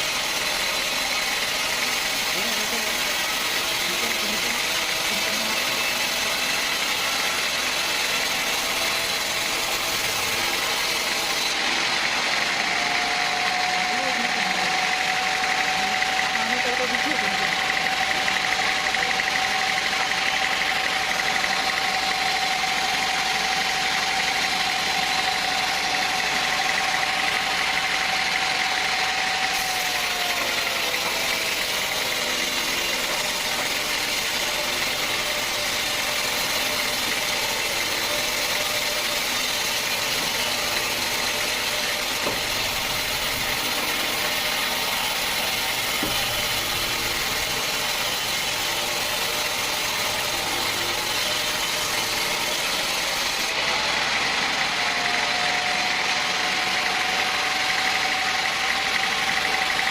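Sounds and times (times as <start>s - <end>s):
sawmill machinery drone and whine: 0.0s - 59.9s.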